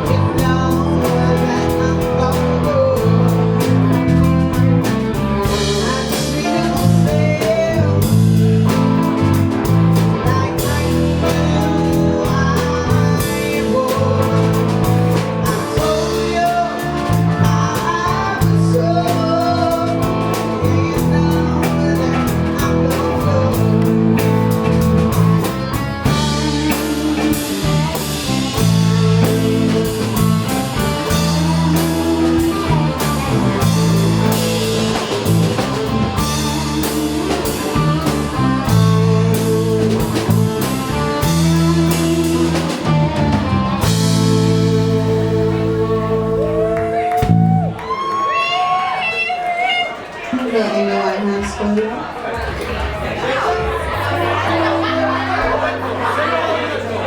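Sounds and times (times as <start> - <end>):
drum kit: 0.0 - 49.0
person singing: 0.0 - 49.9
bass: 0.0 - 50.8, 51.4 - 57.0
guitar: 0.0 - 57.0.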